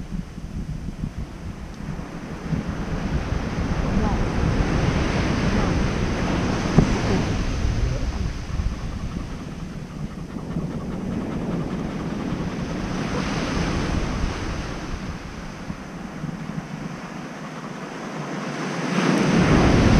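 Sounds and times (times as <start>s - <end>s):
wind buffeting microphone: 0.0s - 19.9s
ocean surf breaking: 1.8s - 19.9s.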